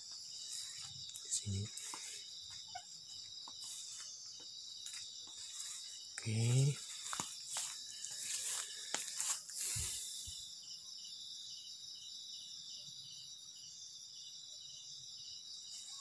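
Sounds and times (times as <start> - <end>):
insect chirping in short pulses: 0.0 - 16.0
insects chirring: 0.0 - 16.0.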